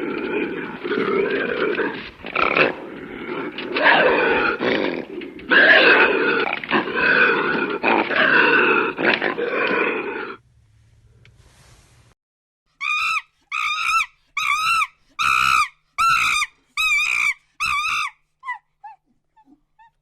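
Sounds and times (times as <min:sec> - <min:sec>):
animal making drawn-out calls: 0:00.0 - 0:10.4, 0:12.8 - 0:20.0.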